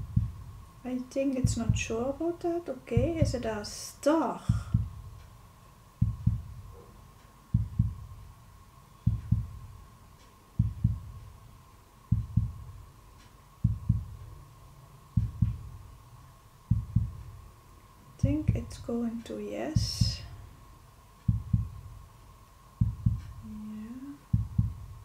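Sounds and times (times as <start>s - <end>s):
heartbeat thumps: 0.0s - 3.8s, 4.4s - 14.5s, 15.1s - 17.6s, 18.2s - 18.8s, 19.7s - 20.6s, 21.2s - 25.0s.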